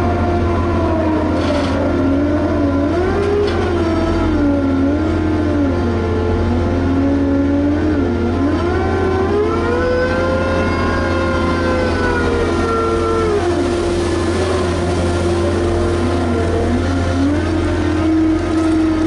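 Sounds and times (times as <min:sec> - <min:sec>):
diesel engine droning under load: 0:00.0 - 0:19.0.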